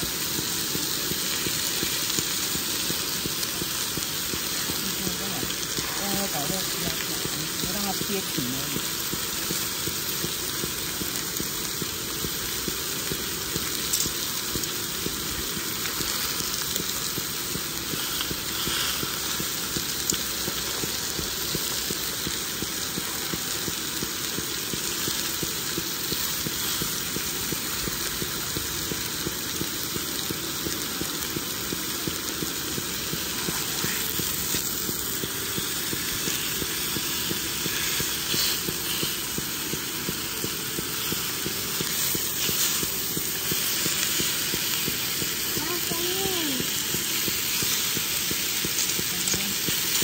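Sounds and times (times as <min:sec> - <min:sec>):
steaks sizzling in a skillet: 0:00.0 - 0:50.0.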